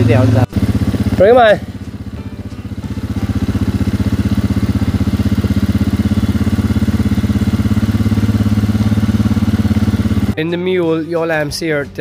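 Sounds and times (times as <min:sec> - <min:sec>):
quad bike engine running: 0:00.0 - 0:10.4.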